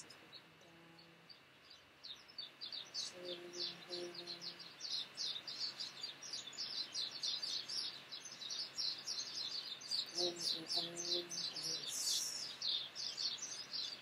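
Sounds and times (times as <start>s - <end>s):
small birds chirping rapidly: 0.0s - 14.0s.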